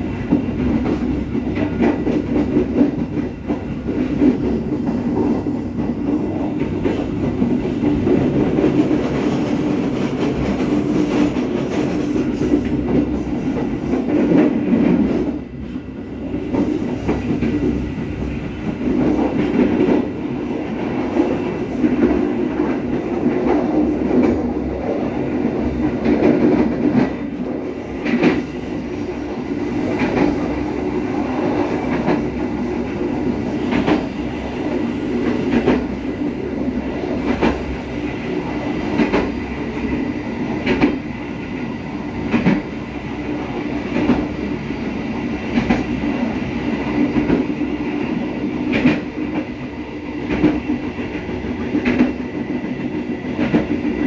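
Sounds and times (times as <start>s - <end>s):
rumble of wheels on rails: 0.0s - 54.0s.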